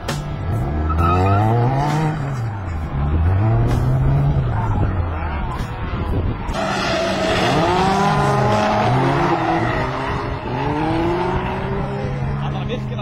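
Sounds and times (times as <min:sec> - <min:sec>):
racing car engines revving: 0:00.0 - 0:13.0
tyres skidding: 0:00.0 - 0:13.0.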